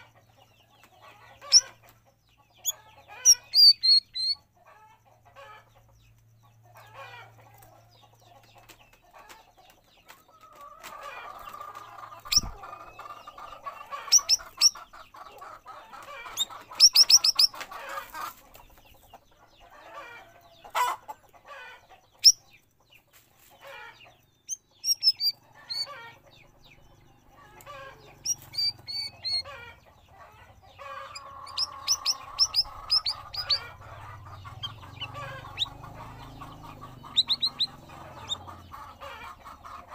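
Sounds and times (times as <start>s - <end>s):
rough bird chatter: 0.0s - 39.9s
songbird chirping: 0.0s - 39.9s.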